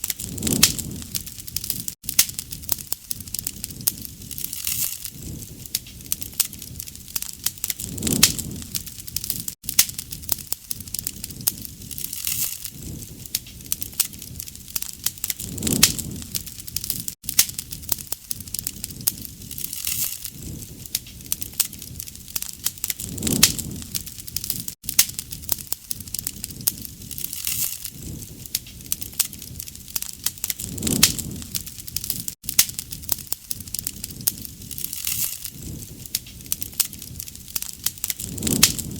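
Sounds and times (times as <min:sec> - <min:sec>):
bonfire crackling and popping: 0:00.0 - 0:38.9
low whoosh of flame: 0:00.0 - 0:38.9.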